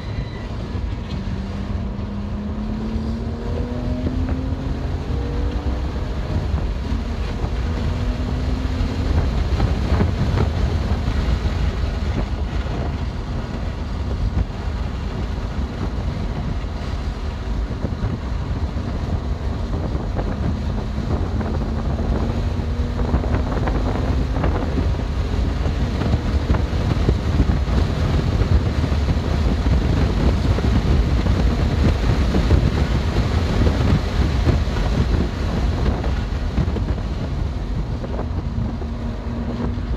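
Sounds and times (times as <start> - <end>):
car engine at speed: 0.0 - 39.9
heavy wind noise: 0.0 - 39.9
road rumble: 0.0 - 39.9.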